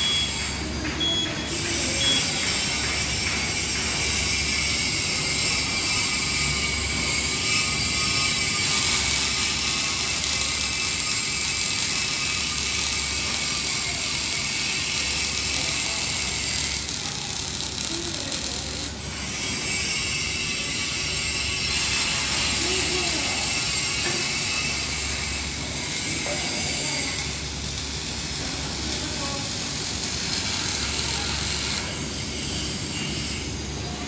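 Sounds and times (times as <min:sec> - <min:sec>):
factory noise: 0:00.0 - 0:34.0
welding arc hiss and crackle: 0:00.0 - 0:34.0.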